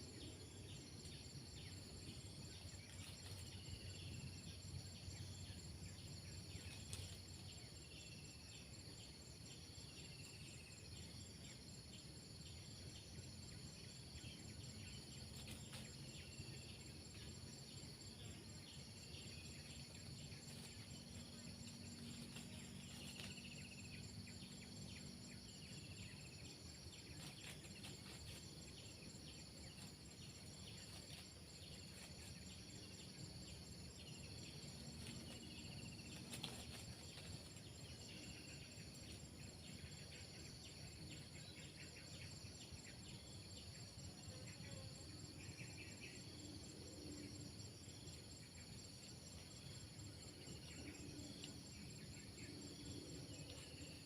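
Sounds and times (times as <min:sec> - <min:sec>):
insect chorus trilling: 0:00.0 - 0:54.0.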